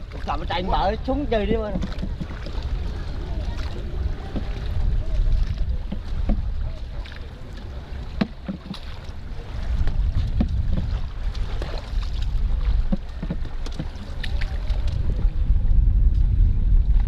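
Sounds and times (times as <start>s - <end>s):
basket boat knocks and splashes: 0.0s - 17.0s
wind rumbling on microphone: 0.0s - 17.0s.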